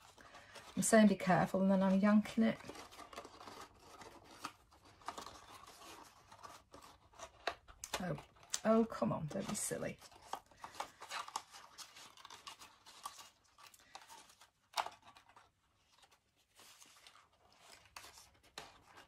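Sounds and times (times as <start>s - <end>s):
cardstock rustling and crackling: 0.0s - 19.0s.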